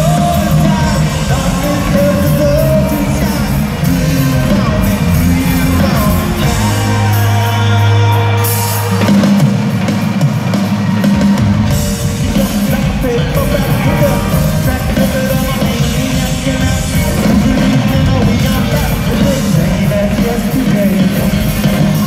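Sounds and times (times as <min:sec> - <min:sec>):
person singing lead vocal: 0:00.0 - 0:09.7, 0:11.8 - 0:22.0
bass guitar: 0:00.0 - 0:22.0
drum kit: 0:00.0 - 0:22.0
electric guitar: 0:00.0 - 0:22.0.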